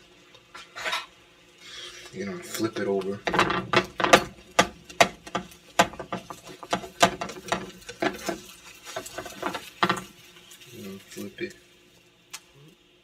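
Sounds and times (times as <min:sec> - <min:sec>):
spatula scraping a frying pan: 0:00.5 - 0:11.2.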